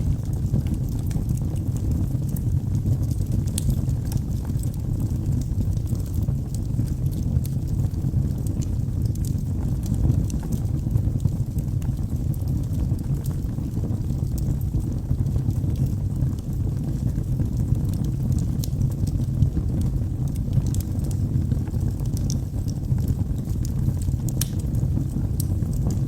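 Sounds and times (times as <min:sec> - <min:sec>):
burning logs crackling: 0:00.0 - 0:26.0
fire rumbling: 0:00.0 - 0:26.0.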